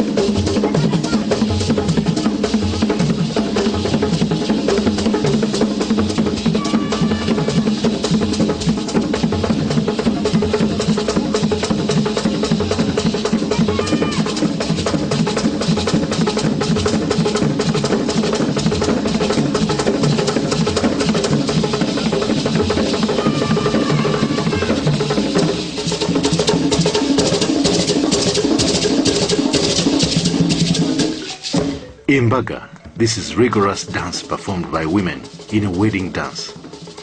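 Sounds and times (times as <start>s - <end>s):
fast dance drumming: 0.0s - 37.0s.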